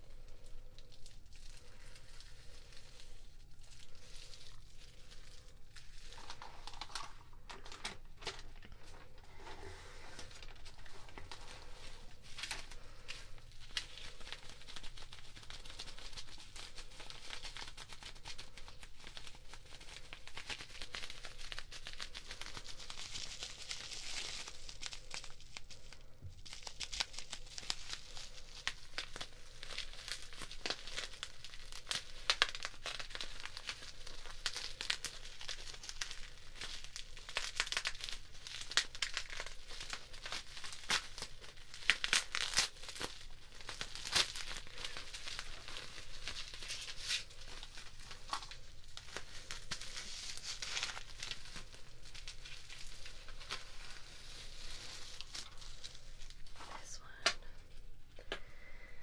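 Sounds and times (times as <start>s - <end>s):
packaging crinkling: 0.0s - 58.9s.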